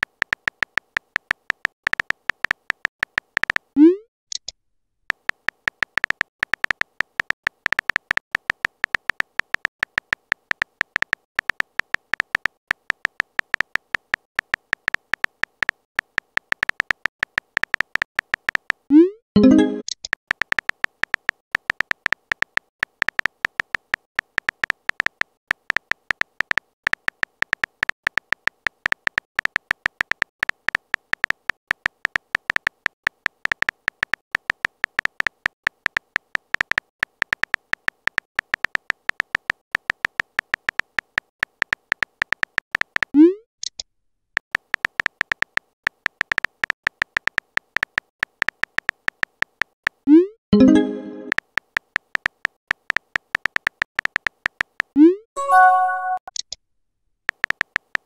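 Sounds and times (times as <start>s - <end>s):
keyboard typing clicks: 0.0s - 4.5s, 5.1s - 43.8s, 44.6s - 56.6s, 57.3s - 58.0s.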